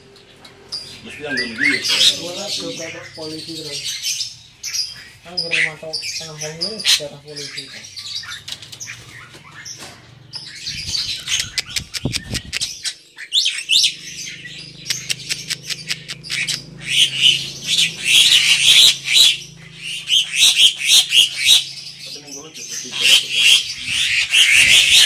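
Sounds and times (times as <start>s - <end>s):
mynas chattering and squawking: 0.5s - 25.0s.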